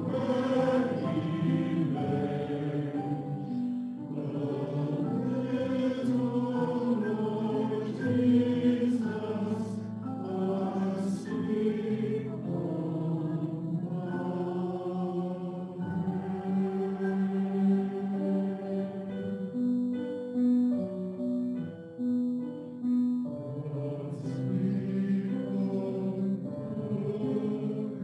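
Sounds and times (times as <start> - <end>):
mixed choir singing: 0.0 - 19.4, 23.4 - 28.0
grand piano: 0.0 - 28.0.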